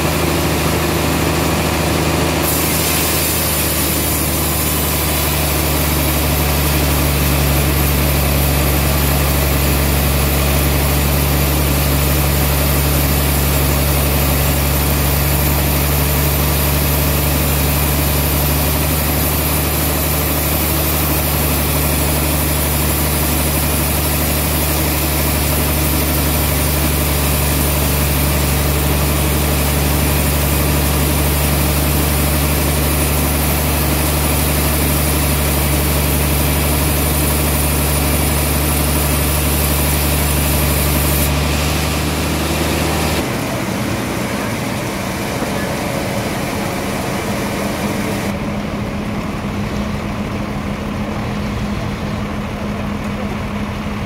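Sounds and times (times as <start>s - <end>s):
saw blade cutting log: 0.0s - 43.3s
band saw machine hum: 0.0s - 54.0s.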